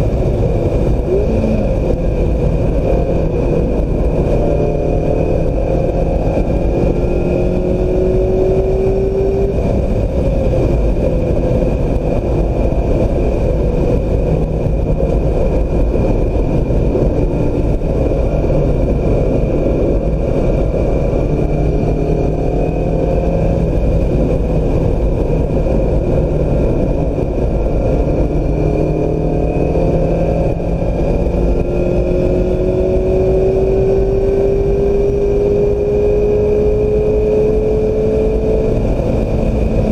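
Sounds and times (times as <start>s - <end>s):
car engine revving: 0.0s - 39.9s
wind noise: 0.0s - 39.9s.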